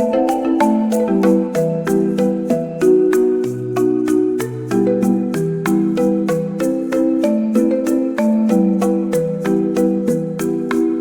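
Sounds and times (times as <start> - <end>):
marimba-like mallet notes: 0.0 - 11.0.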